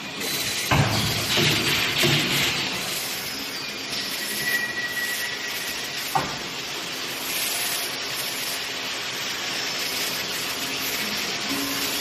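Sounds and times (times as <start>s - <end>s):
welding machine hissing: 0.0s - 12.0s.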